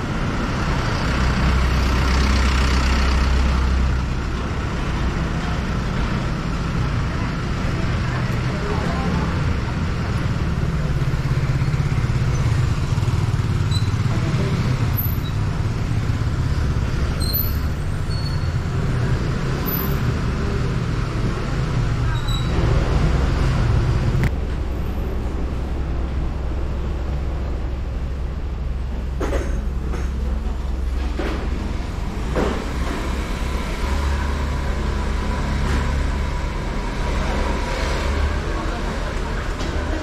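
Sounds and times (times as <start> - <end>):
street noise: 0.0 - 40.0
vehicle engine rumbling: 0.0 - 40.0.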